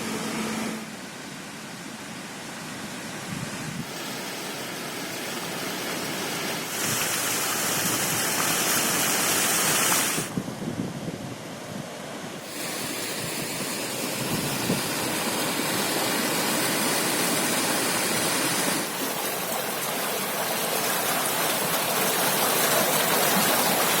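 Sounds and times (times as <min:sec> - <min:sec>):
water rushing over dam: 0:00.0 - 0:10.5, 0:11.4 - 0:24.0.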